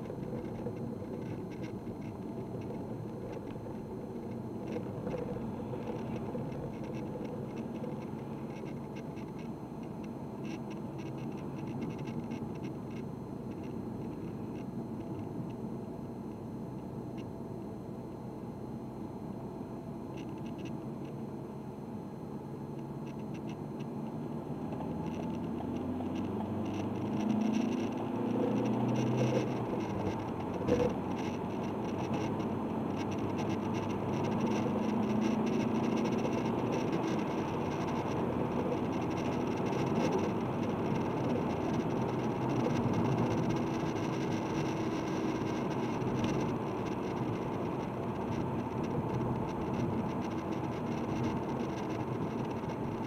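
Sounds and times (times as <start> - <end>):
diesel car engine running: 0.0 - 53.0.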